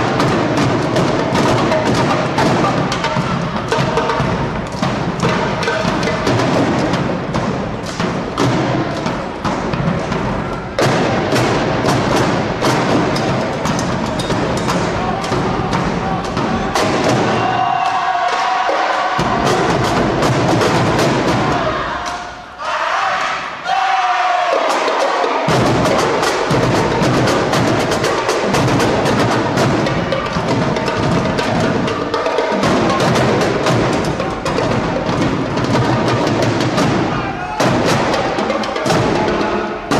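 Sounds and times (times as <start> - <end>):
marching drum line cadence: 0.0 - 39.9.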